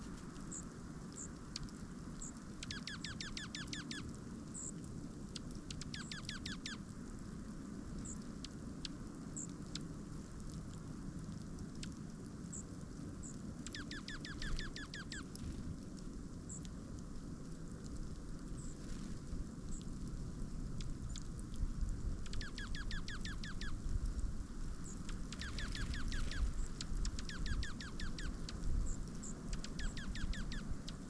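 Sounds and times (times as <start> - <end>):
low background noise: 0.0 - 31.0.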